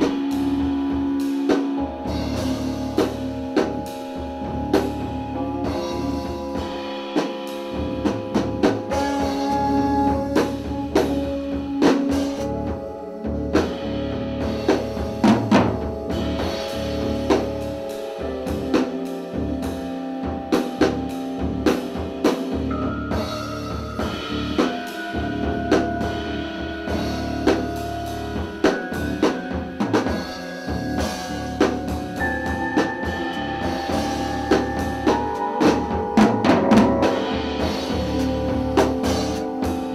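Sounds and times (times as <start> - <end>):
drum kit loose hits: 0.0 - 39.9
held musical tones: 0.0 - 39.9.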